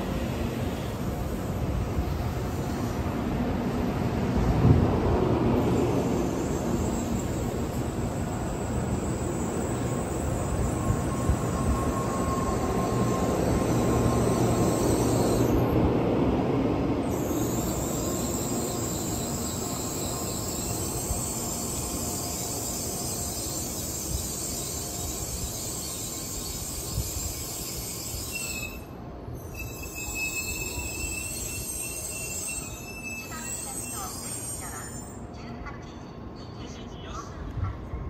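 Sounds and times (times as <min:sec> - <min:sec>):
train running noise: 0:00.0 - 0:38.0.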